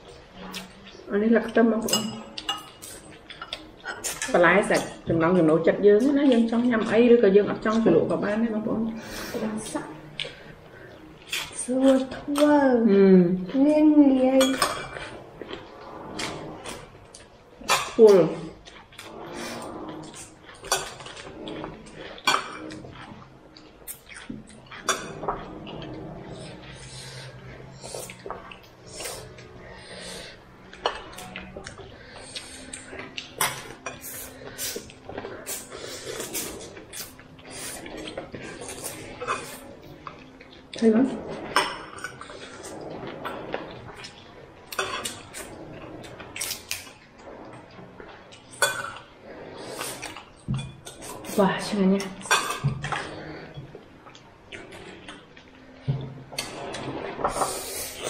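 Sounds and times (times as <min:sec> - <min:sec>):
dishes and utensils clinking: 0:00.0 - 0:12.6, 0:13.4 - 0:58.0.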